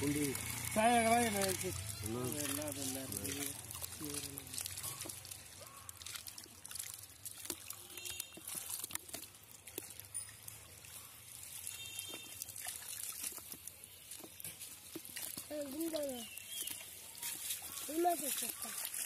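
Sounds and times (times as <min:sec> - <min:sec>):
fish flapping and splashing: 0:00.0 - 0:19.0
water trickling and dripping: 0:00.0 - 0:19.0.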